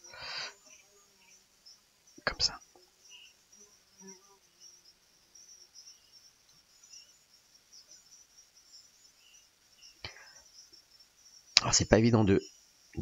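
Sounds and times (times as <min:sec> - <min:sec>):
faint high hiss: 0:00.0 - 0:13.0.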